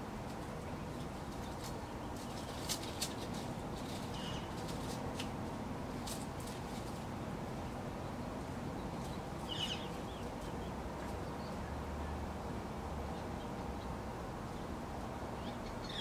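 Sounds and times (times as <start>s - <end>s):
songbird chirp: 0.0s - 16.0s.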